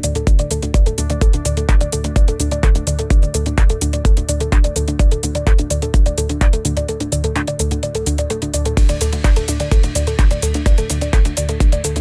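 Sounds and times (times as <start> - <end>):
deep bassline: 0.0 - 12.0
hi-hat ticks: 0.0 - 12.0
kick drum: 0.0 - 12.0.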